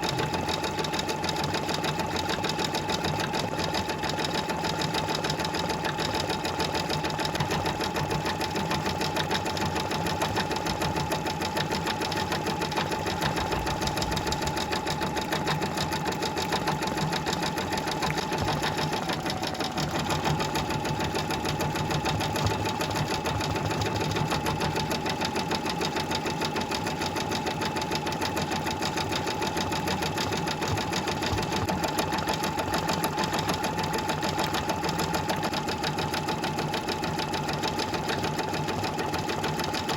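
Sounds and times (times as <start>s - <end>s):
sewing machine stitching: 0.0s - 39.9s.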